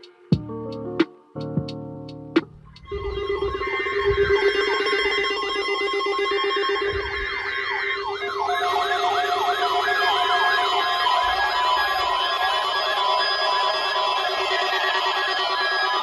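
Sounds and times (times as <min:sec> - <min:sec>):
siren-like sweeping alarm: 0:02.9 - 0:16.0
steady electronic alarm tones: 0:02.9 - 0:16.0.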